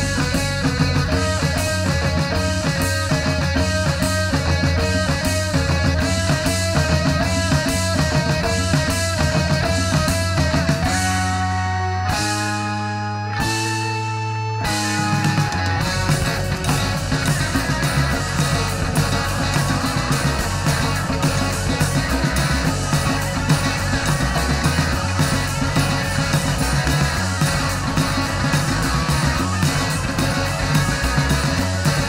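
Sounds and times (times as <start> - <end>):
bass guitar: 0.0 - 32.0
drums playing steady beat: 0.0 - 32.0
electric guitar: 0.0 - 32.0.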